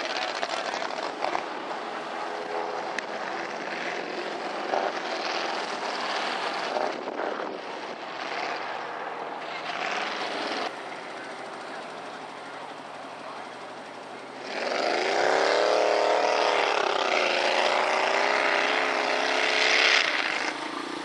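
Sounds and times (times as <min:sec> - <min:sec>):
truck churning through mud: 0:00.0 - 0:21.0
truck engine revving hard: 0:02.2 - 0:21.0.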